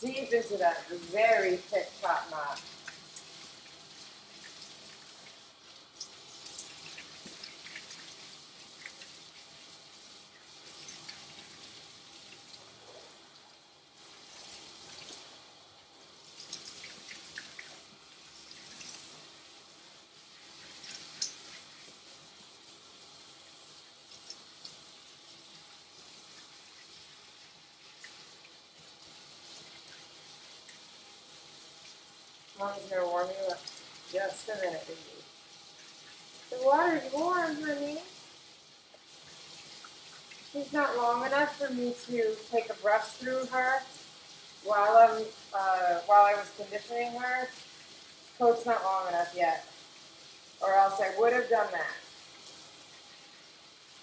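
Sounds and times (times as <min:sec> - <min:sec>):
water spraying and splashing: 0:00.0 - 0:54.0.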